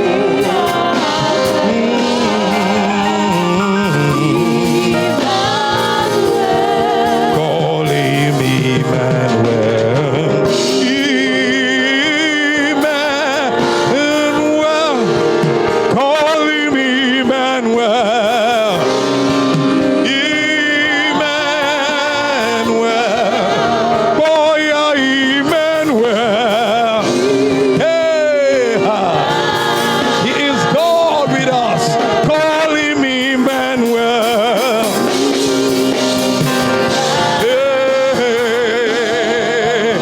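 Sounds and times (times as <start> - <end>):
solo voice singing gospel: 0.0 - 40.0
steady held chords: 0.0 - 40.0.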